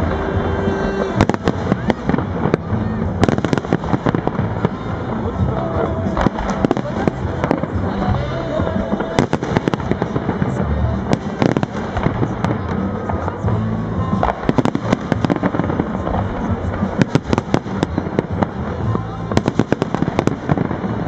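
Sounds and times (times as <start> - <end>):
background music: 0.0 - 21.0
fireworks bangs and crackles: 0.0 - 21.0.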